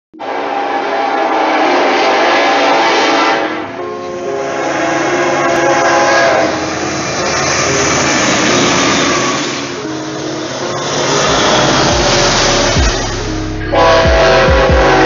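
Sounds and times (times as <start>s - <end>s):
locomotive air horn chord: 0.2s - 15.0s.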